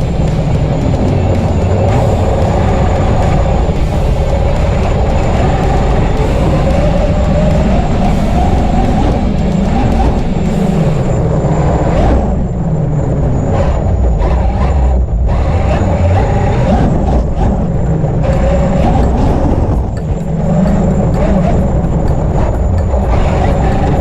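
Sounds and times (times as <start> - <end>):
rc truck drivetrain whine: 0.0 - 24.0.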